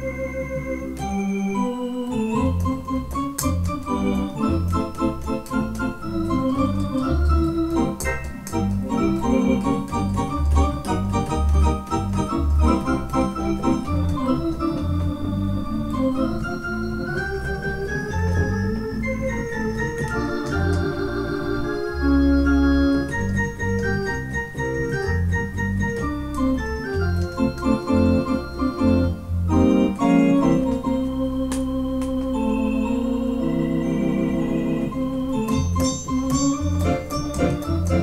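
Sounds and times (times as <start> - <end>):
electronic organ playing chords and melody: 0.0 - 38.0.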